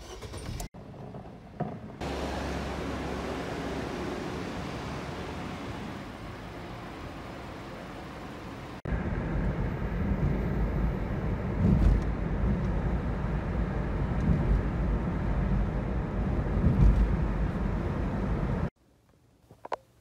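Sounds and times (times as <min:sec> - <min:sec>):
car cabin road noise: 0:00.0 - 0:18.8.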